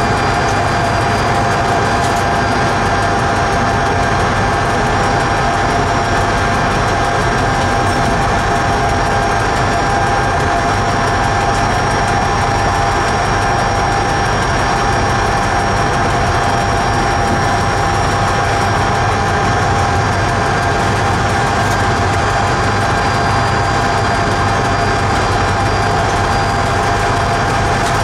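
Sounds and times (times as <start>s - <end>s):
train wheels rumbling on rails: 0.0s - 28.0s
train whine: 0.0s - 28.0s.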